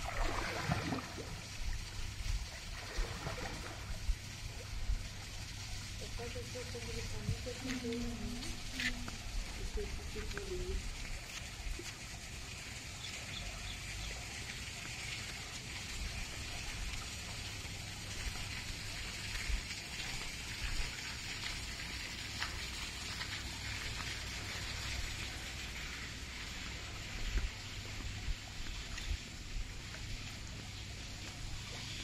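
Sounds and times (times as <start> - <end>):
small water drips: 0.0 - 32.0
water pattering and splashing: 0.0 - 32.0.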